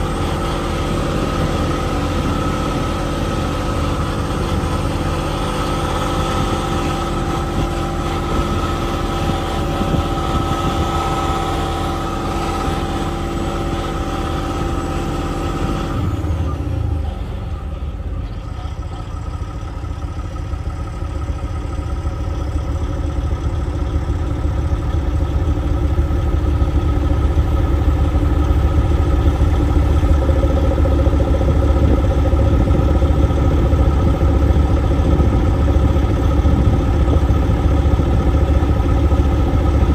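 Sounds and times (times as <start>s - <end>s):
deep engine rumble: 0.0s - 39.9s
heavy diesel engine humming: 0.0s - 39.9s.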